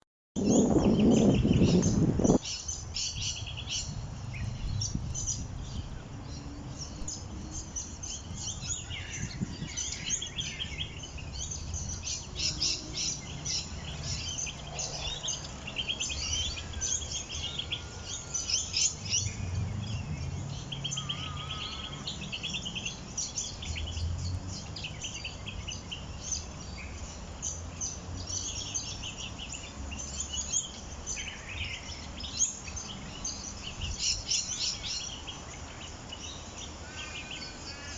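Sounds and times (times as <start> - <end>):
small birds chirping: 0.4 - 37.9.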